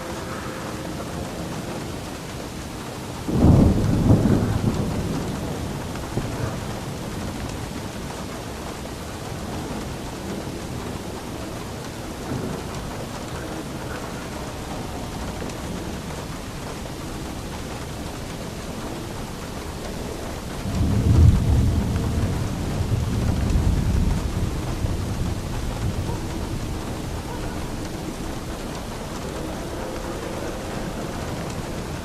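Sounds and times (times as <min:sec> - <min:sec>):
steady rain: 0:00.0 - 0:32.0
thunder rumbling: 0:00.0 - 0:32.0.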